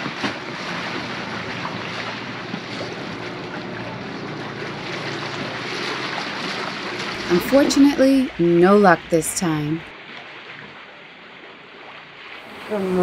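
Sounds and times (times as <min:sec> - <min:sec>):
sea water rushing past hull: 0:00.0 - 0:13.0.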